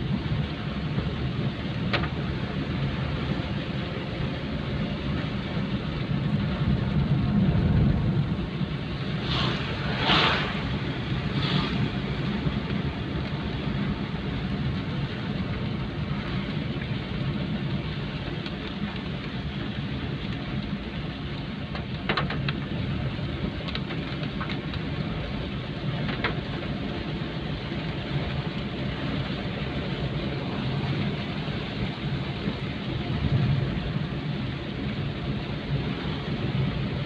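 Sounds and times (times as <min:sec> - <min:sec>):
low vehicle-like rumble: 0:00.0 - 0:37.0
rain hiss: 0:00.0 - 0:37.0.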